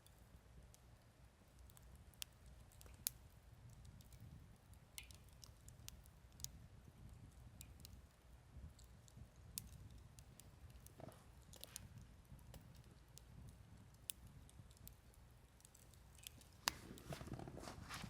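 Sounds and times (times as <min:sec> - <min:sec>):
low fire rumble: 0:00.3 - 0:18.0
campfire crackling and popping: 0:01.5 - 0:18.0.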